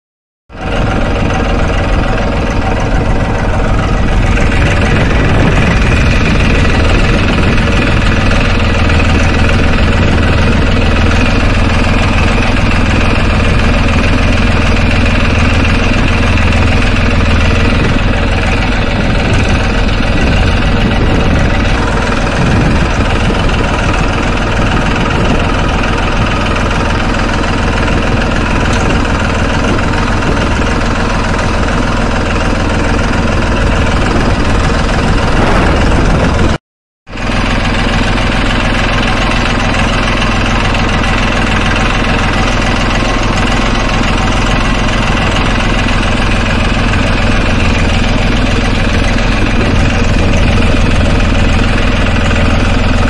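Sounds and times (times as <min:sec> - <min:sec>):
tractor diesel engine running: 0:00.5 - 0:53.0.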